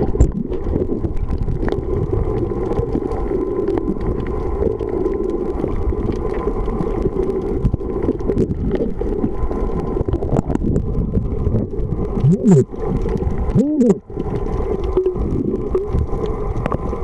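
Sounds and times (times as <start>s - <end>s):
faint clicks: 0.0s - 17.0s
muffled underwater rumble: 0.0s - 17.0s.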